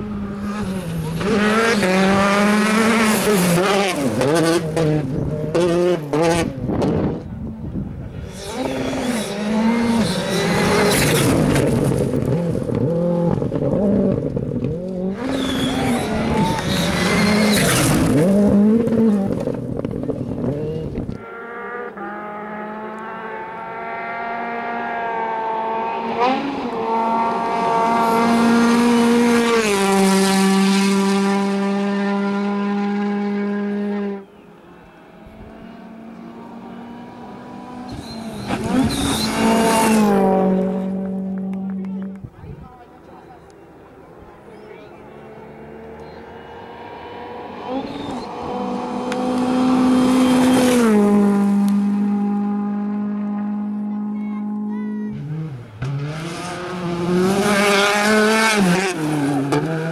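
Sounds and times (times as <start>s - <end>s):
rally car engine high revs: 0.0s - 7.2s, 8.1s - 34.3s, 35.6s - 42.2s, 45.3s - 59.9s.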